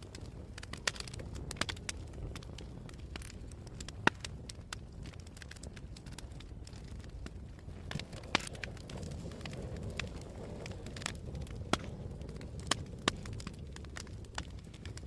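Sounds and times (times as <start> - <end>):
fire crackles and pops: 0.0 - 15.0
fire low rumble: 0.0 - 15.0.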